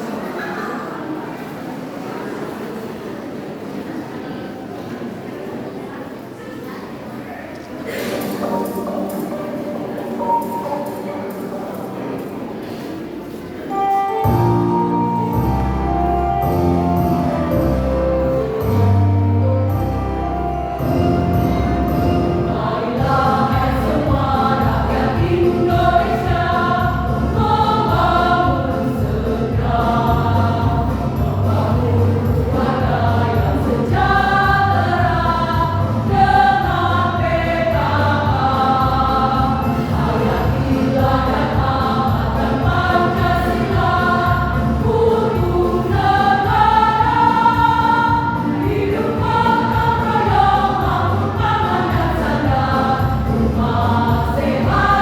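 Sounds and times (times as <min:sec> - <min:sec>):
choir singing: 0:08.0 - 0:12.9, 0:13.7 - 0:55.0
rhythmic accompaniment: 0:08.2 - 0:55.0.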